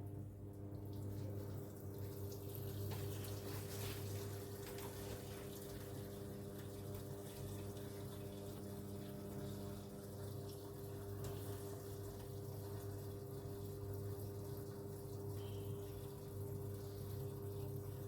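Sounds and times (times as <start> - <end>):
water filling washing machine: 0.0 - 18.0.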